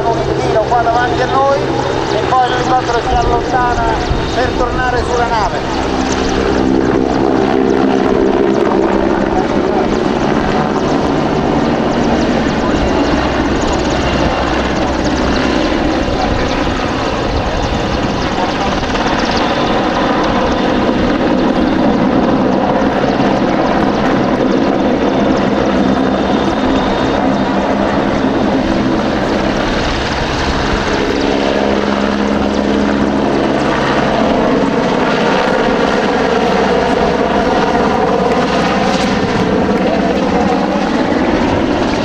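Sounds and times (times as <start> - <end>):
helicopter flying past: 0.0 - 42.0.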